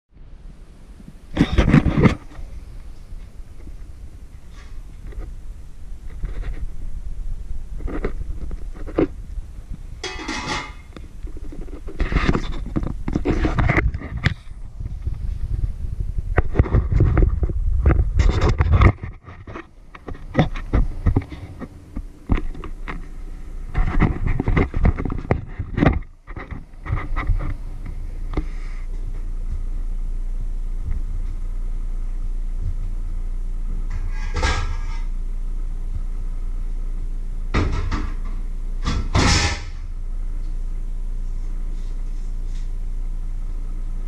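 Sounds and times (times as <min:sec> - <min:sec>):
steady low hum: 0:00.1 - 0:44.0.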